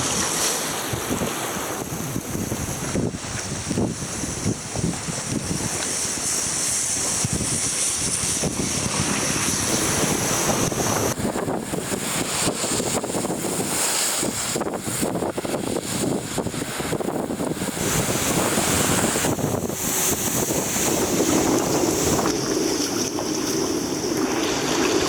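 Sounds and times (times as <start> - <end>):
floodwater rushing: 0.0 - 25.0
wind noise on microphone: 0.0 - 25.0.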